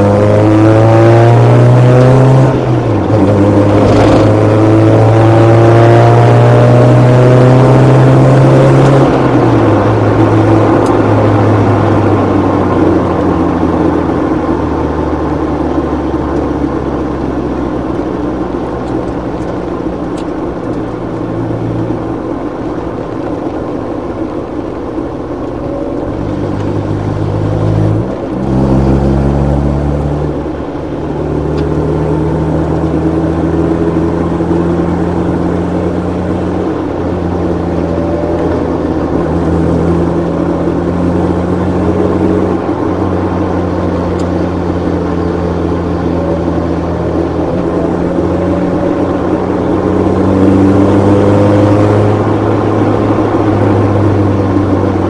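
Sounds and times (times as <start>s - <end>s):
race car engine at low revs: 0.0s - 55.0s.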